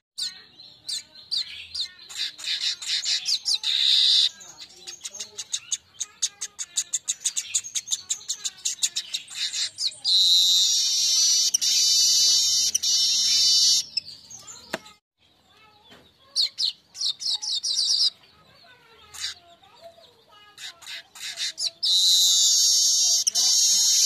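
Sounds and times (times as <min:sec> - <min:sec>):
harsh buzzing bird chatter: 0:00.2 - 0:24.0
weaver birds chip notes: 0:00.2 - 0:24.0.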